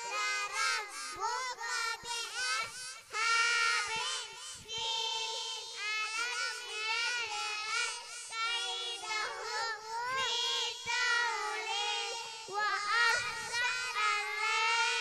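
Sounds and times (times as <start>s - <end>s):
girls chanting in unison over pa: 0.0s - 15.0s.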